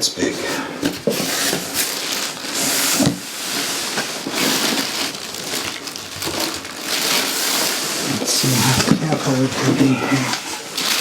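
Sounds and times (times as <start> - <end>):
packaging rustling and crackling: 0.8 - 11.0.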